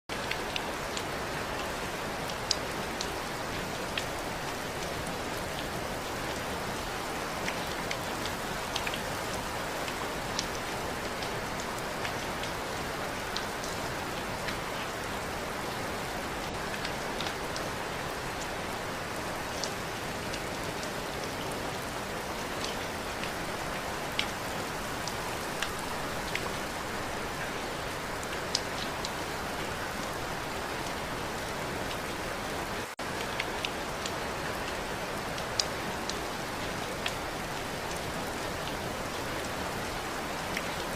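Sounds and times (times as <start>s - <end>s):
steady rain hiss: 0.1s - 40.9s.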